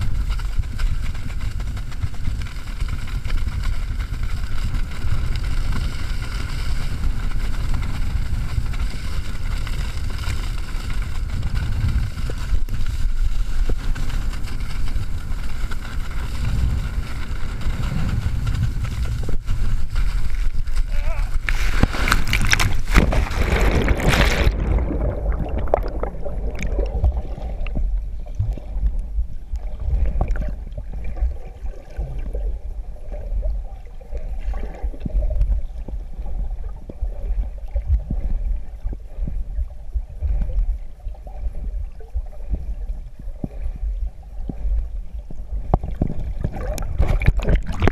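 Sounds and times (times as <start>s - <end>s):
water splashing: 0.0s - 39.4s, 40.2s - 47.9s
muffled underwater rumble: 0.0s - 47.9s.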